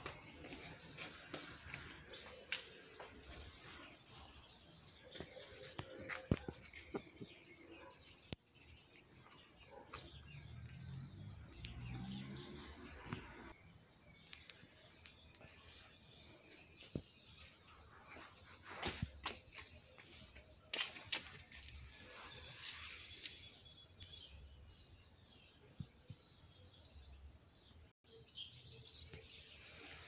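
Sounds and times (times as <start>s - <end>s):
birds chirping faintly: 0.0s - 30.0s.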